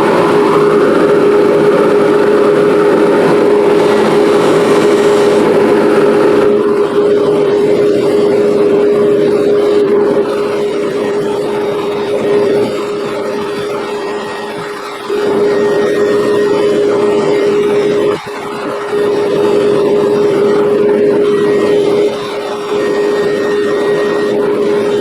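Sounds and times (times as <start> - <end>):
buffing wheel humming and hissing: 0.0 - 25.0.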